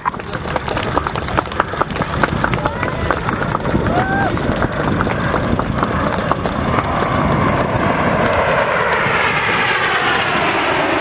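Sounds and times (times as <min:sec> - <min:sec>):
jets flying past: 0:00.0 - 0:11.0.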